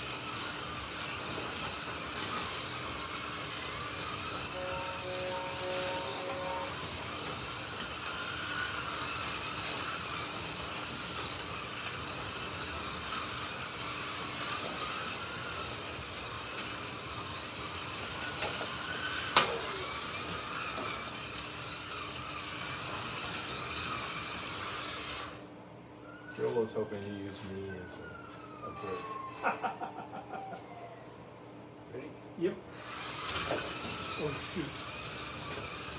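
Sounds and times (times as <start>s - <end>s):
slot car motors whining: 0.0s - 26.9s, 27.6s - 31.2s, 32.7s - 35.9s.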